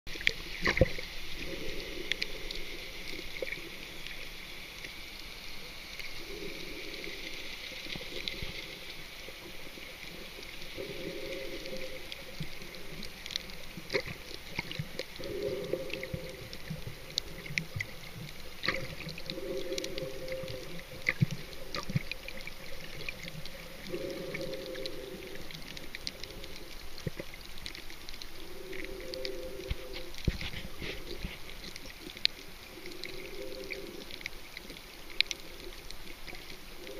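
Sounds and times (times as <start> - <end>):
sharp clicks and crackles: 0.1 - 36.9
underwater bubbling and gurgling: 0.1 - 36.9.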